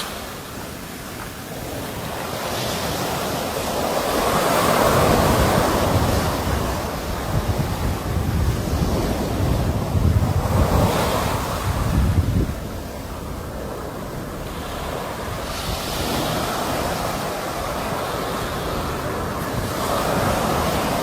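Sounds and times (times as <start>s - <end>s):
sea waves breaking: 0.0s - 21.0s
wind buffeting microphone: 0.0s - 21.0s.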